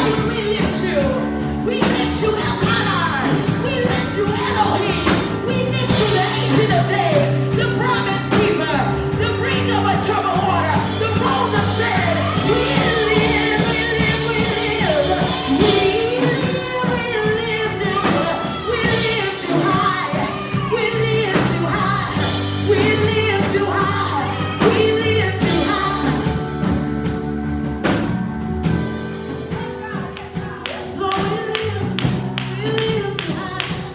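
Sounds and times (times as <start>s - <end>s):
gospel singing with held notes: 0.0s - 27.8s
band accompaniment: 0.0s - 33.9s.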